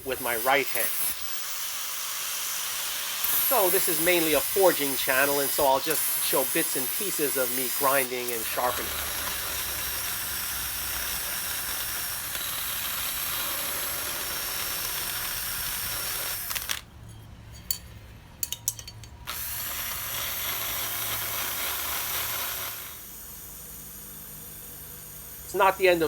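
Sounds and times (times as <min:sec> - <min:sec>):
belt grinder hissing on steel: 0:00.0 - 0:16.8, 0:19.3 - 0:26.0.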